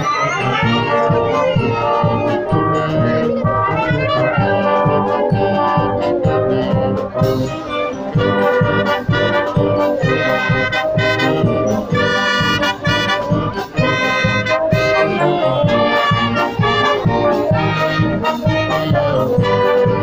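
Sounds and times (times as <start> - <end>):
brass band playing: 0.0 - 20.0
steady drum beat: 0.5 - 20.0.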